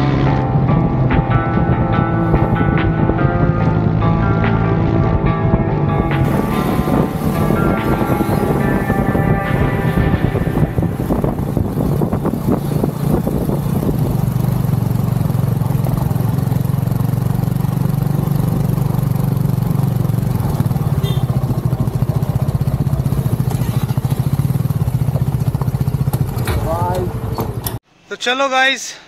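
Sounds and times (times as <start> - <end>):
motorcycle engine running: 0.0 - 27.8.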